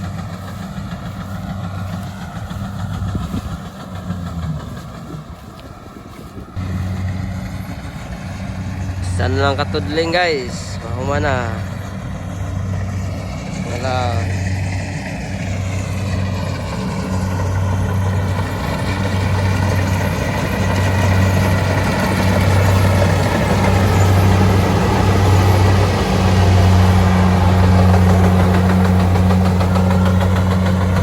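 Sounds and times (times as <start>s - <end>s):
harvester engine humming: 0.0s - 31.0s
machinery rushing noise: 0.0s - 31.0s.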